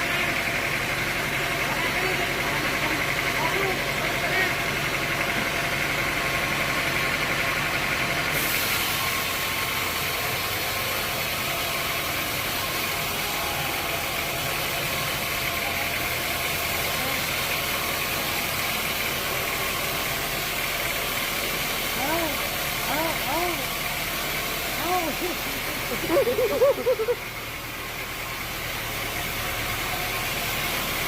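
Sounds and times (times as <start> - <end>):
sawmill machinery running: 0.0 - 31.0.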